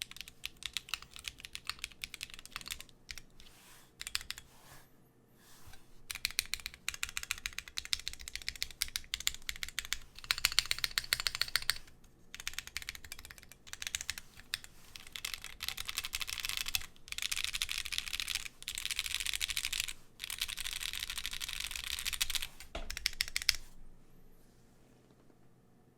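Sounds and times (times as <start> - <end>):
mechanical keyboard typing: 0.0 - 3.3, 4.0 - 4.4, 6.1 - 23.6.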